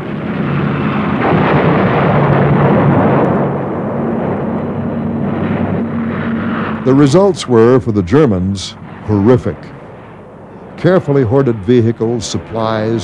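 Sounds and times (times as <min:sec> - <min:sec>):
low steady drone: 0:00.0 - 0:13.0.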